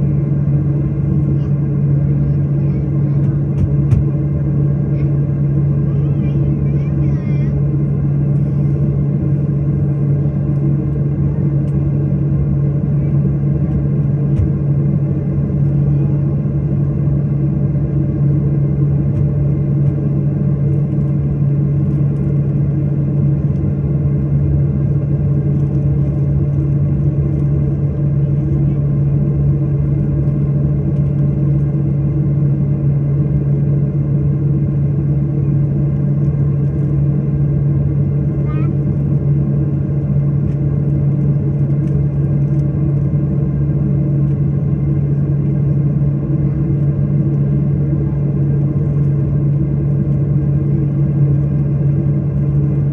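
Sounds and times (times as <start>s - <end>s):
airliner cabin drone: 0.0s - 52.9s.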